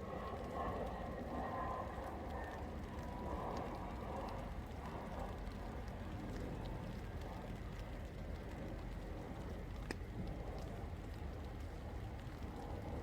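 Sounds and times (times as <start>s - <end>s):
low constant rumble: 0.0s - 13.0s
steady rain falling: 0.0s - 13.0s.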